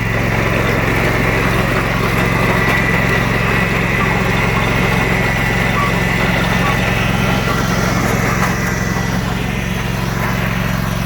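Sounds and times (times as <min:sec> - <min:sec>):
riding lawnmower engine running: 0:00.0 - 0:11.0.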